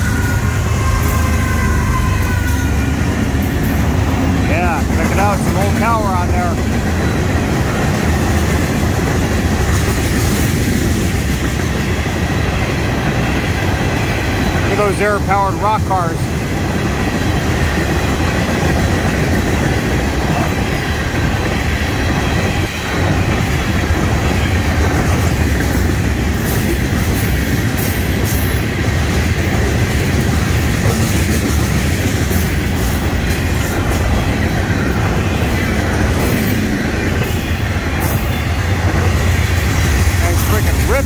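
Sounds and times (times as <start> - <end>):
freight train rumbling past: 0.0 - 41.0
wheel clatter on rails: 2.6 - 41.0.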